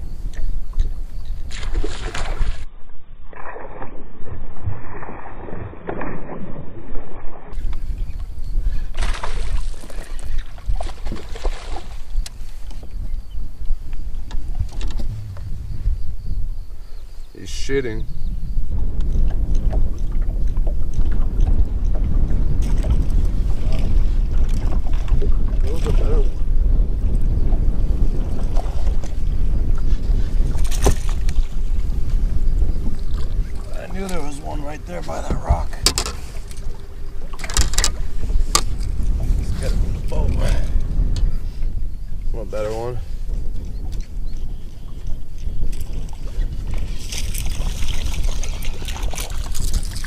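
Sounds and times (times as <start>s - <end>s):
wind rumbling on microphone: 0.0s - 50.0s
water sloshing against boat hull: 0.3s - 13.2s, 13.9s - 16.4s, 18.9s - 26.5s, 27.1s - 41.4s, 42.2s - 50.0s.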